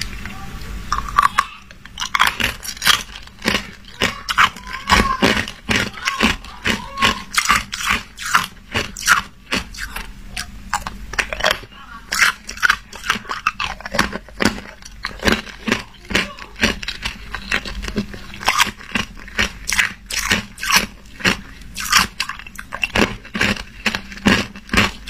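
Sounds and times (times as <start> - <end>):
ice cubes crunched by teeth: 0.9 - 10.0, 10.7 - 25.0.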